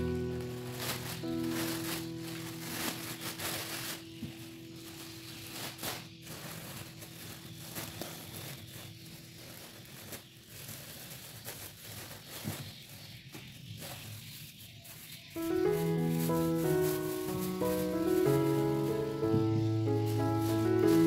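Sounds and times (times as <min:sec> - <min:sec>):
plastic bags rustling: 0:00.0 - 0:21.0.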